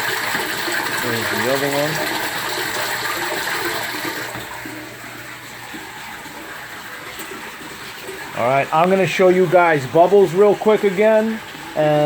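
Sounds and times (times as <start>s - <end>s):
water splashing into aquarium: 0.0s - 12.0s.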